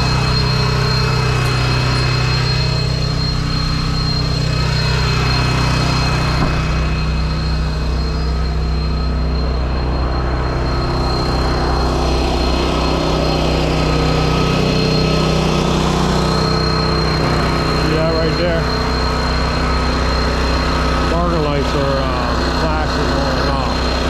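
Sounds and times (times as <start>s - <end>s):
engine idling: 0.0s - 24.0s
thin high tone: 0.0s - 24.0s.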